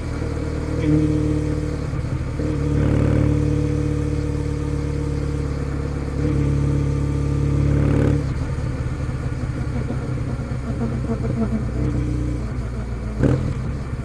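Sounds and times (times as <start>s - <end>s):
motorcycle engine riding: 0.0s - 14.0s.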